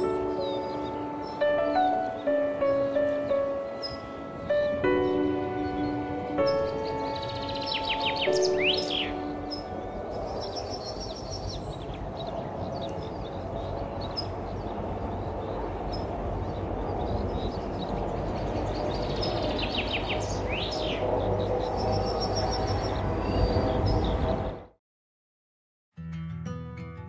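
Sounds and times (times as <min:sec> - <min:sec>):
songbirds chirping and singing: 0:00.0 - 0:24.6.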